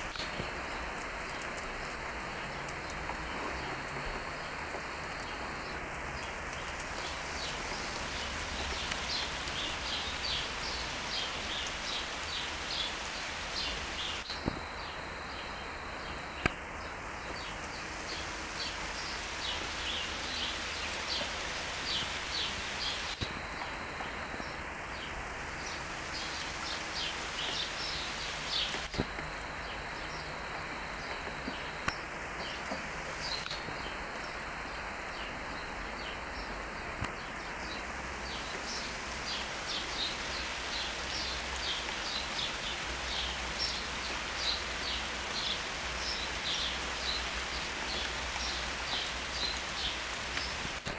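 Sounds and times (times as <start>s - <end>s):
rain on trees: 0.0s - 50.9s
small birds chirping: 4.4s - 50.8s.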